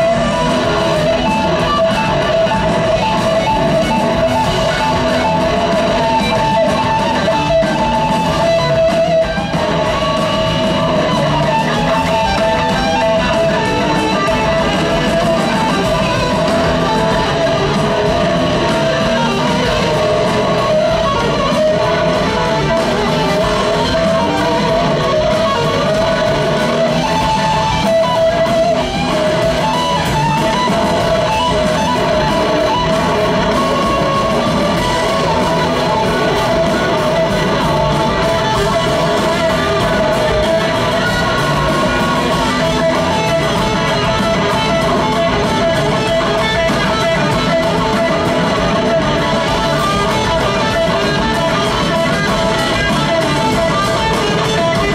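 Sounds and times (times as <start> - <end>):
electric guitar solo: 0.0 - 54.9
rock band playing: 0.0 - 54.9.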